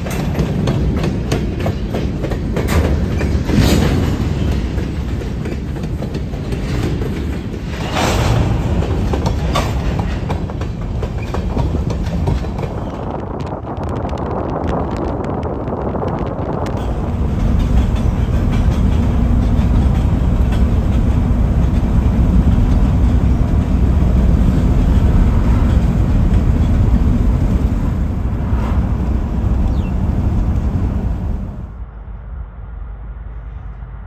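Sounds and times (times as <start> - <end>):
freight train rumbling: 0.0 - 34.0
vehicle road and wind noise: 0.0 - 34.0.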